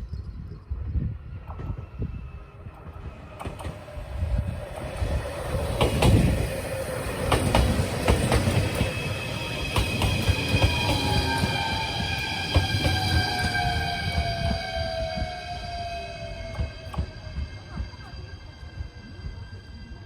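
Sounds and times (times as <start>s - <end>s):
train rumbling on rails: 0.0s - 20.0s
high steady whining tones: 0.7s - 20.0s.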